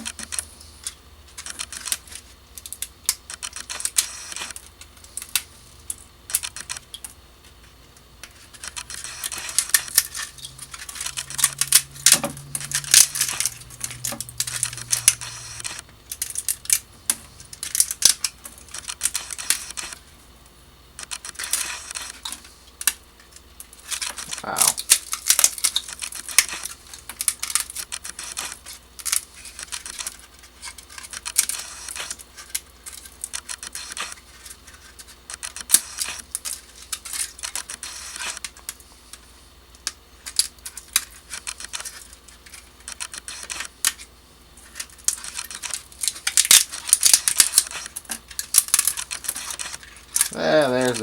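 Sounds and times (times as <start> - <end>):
small clicks and scrapes: 0.0 - 20.1, 21.0 - 51.0.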